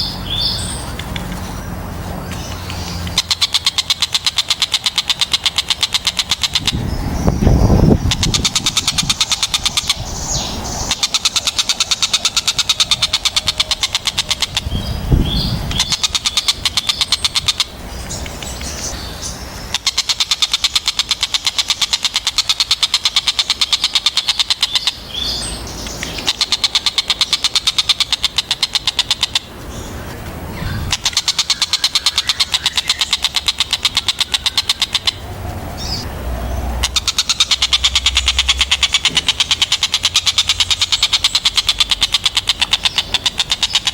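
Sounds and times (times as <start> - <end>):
kingfisher chattering calls: 2.3 - 43.9.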